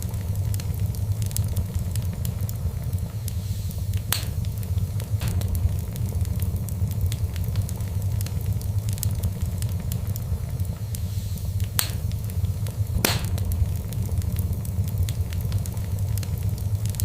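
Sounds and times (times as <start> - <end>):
fire pops: 0.0 - 17.0
wood fire crackling: 0.0 - 17.0.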